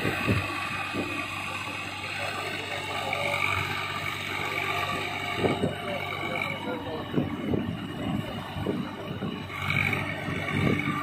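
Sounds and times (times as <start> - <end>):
distant tractor diesel engine: 0.0 - 11.0.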